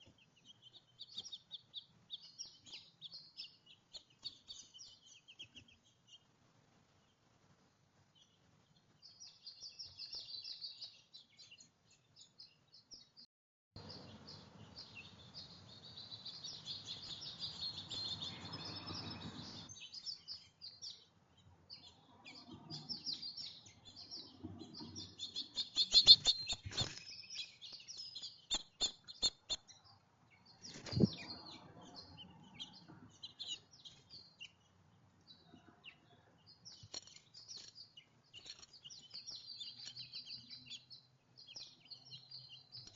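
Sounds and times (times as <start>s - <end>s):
small songbirds chirping: 0.0s - 42.9s.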